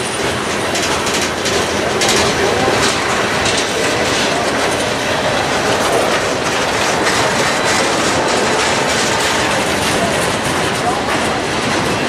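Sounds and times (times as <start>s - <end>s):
freight train rolling past: 0.0s - 12.0s
steel wheels clacking over rail joints: 0.0s - 12.0s.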